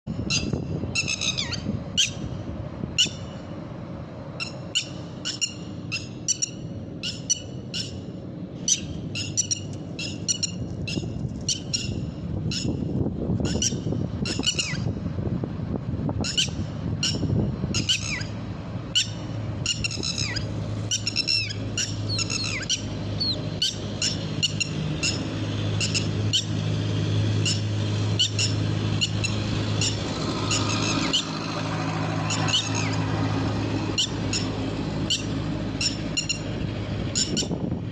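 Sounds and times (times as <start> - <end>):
lapwing calling: 0.2 - 3.5, 4.4 - 12.8, 13.4 - 14.9, 16.2 - 37.6.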